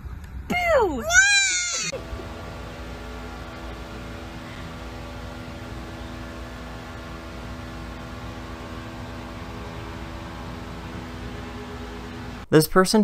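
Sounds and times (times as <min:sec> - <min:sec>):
droning hum with hiss: 0:00.0 - 0:13.0.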